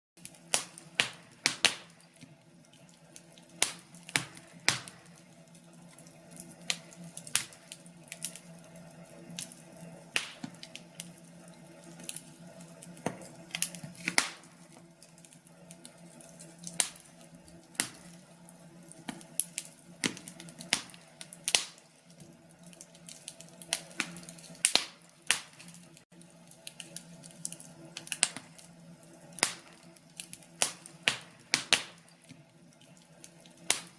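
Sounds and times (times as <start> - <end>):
wood fire crackling and popping: 0.2 - 33.9.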